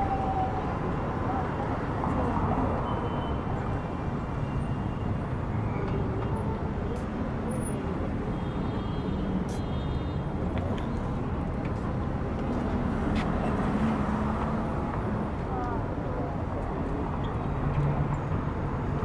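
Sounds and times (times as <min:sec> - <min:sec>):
cars and buses passing: 0:00.0 - 0:19.0.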